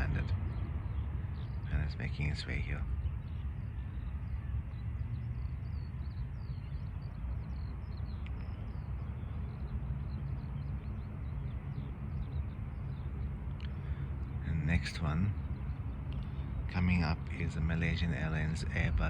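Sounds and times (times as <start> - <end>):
distant traffic: 0.0 - 19.0
low rumble of outdoor air: 0.0 - 19.0
small birds chirping: 0.0 - 19.0.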